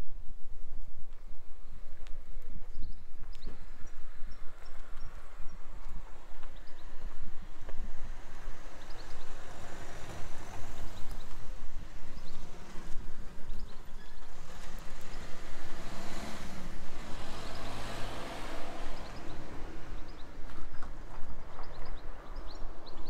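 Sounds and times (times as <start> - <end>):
small birds chirping: 1.6 - 23.0
car passing: 3.5 - 23.0.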